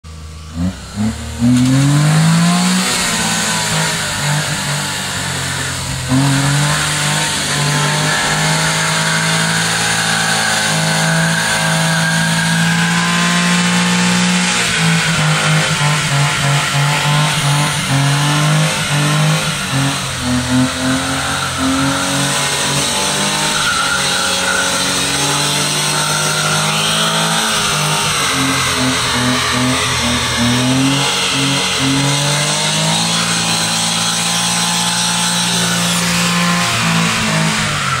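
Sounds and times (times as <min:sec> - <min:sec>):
truck engine at high revs: 0:00.0 - 0:38.0
tyres spinning and squealing: 0:00.1 - 0:38.0.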